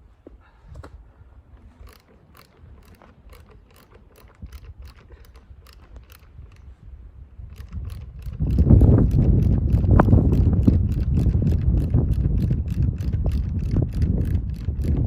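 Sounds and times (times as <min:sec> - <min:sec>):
ratchet wrench clicking: 0:01.7 - 0:06.7, 0:07.4 - 0:15.0.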